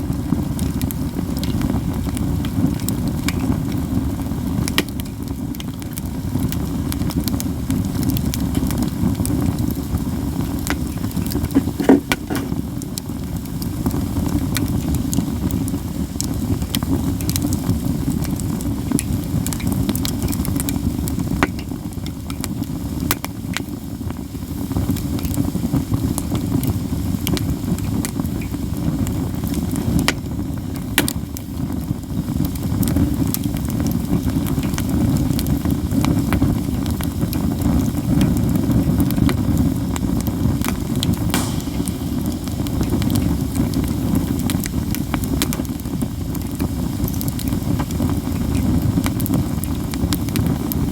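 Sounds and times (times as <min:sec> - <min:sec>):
campfire crackling and snapping: 0:00.0 - 0:50.9
low fire rumble: 0:00.0 - 0:50.9.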